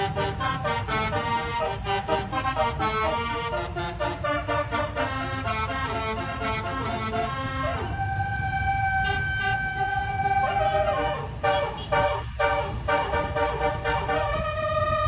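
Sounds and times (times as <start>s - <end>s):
low engine rumble: 0.0s - 15.0s
melody air horn playing tune: 0.0s - 15.0s.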